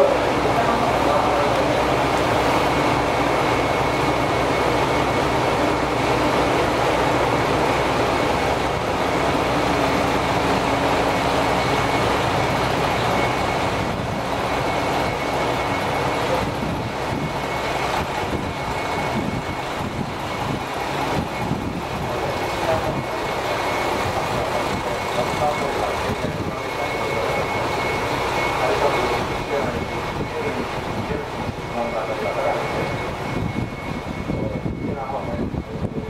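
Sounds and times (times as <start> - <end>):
faint steady whine: 0.0 - 36.0
railcar running rumble: 0.0 - 36.0.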